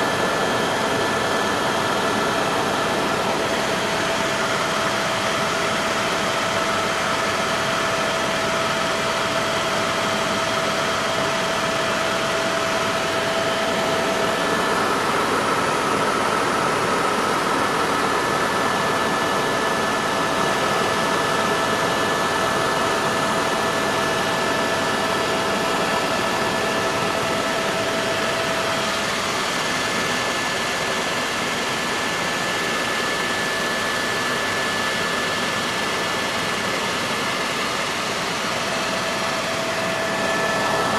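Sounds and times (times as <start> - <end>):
helicopter rotor and engine noise: 0.0 - 40.9.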